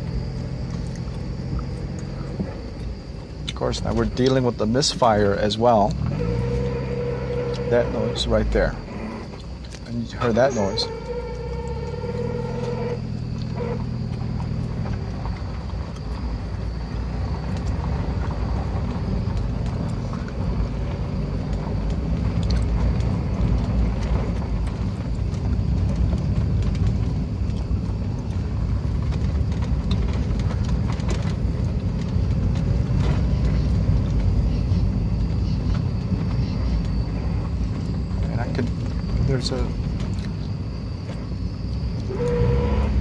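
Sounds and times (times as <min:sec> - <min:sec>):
car engine misfiring while driving: 0:00.0 - 0:43.0.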